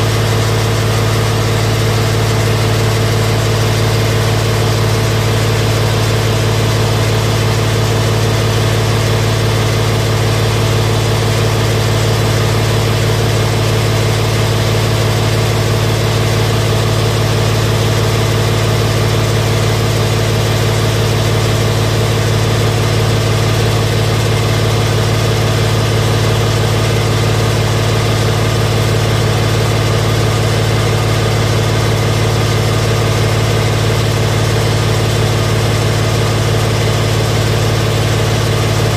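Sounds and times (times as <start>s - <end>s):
drain-jetting machine engine hum: 0.0s - 38.9s.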